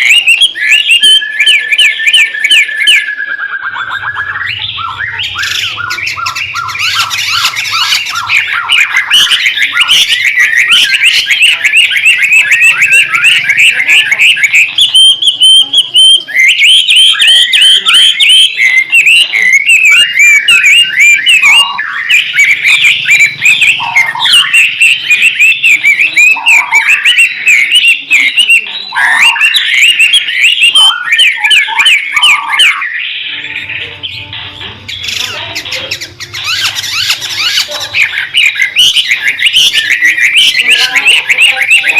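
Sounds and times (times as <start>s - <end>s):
bird singing chattering and whistles: 0.0s - 41.9s.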